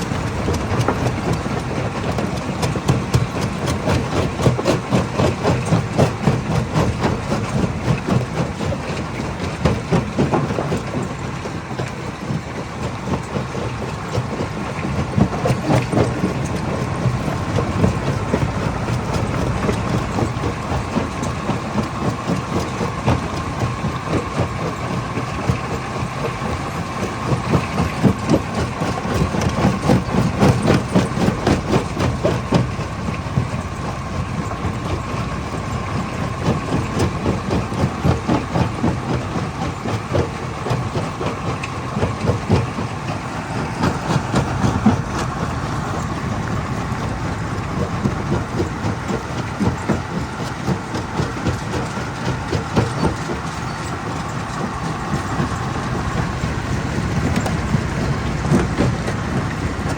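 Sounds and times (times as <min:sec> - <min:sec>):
stone crusher machine drone: 0:00.0 - 0:59.9.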